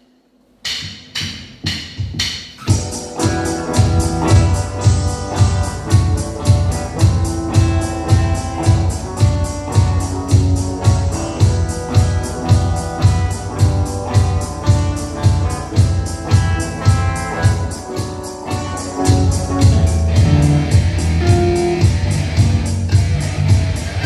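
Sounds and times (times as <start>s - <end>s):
kick drum beat: 0.7s - 24.0s
guitar and keyboard chords: 2.6s - 24.0s.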